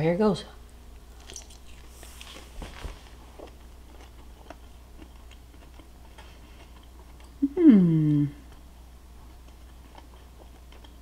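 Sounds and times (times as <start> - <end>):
person chewing crispy food: 0.9 - 7.4, 8.4 - 11.0.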